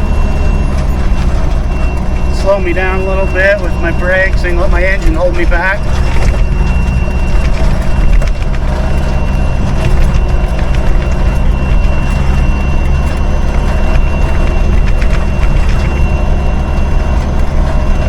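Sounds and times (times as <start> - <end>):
truck engine engine braking: 0.0 - 18.0
truck rattles and knocks: 0.0 - 18.0.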